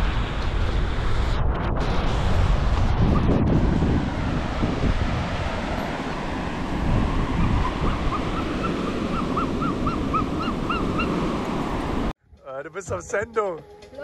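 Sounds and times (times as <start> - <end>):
surf washing onto beach: 0.0 - 12.1
wind noise on microphone: 0.0 - 12.1.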